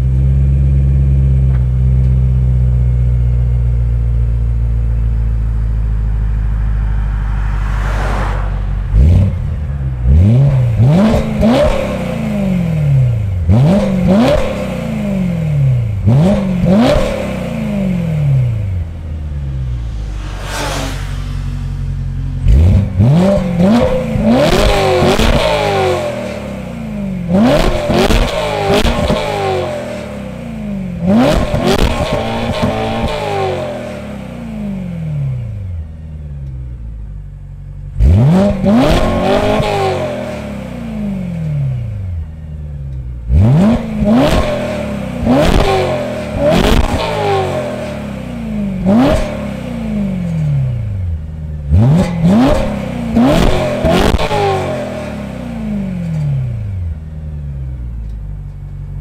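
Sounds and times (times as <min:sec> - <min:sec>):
car engine revving: 0:04.9 - 0:36.8, 0:37.6 - 0:58.3.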